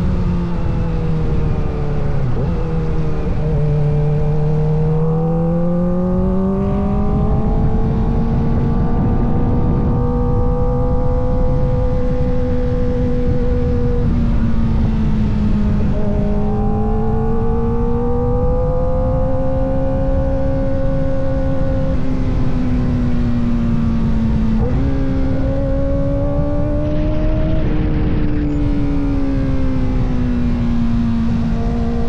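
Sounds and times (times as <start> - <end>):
motorcycle engine at high revs: 0.0 - 32.0.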